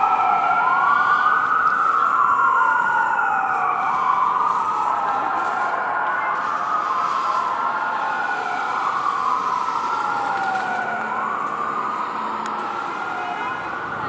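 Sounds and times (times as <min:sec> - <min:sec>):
emergency vehicle siren wailing: 0:00.0 - 0:14.0.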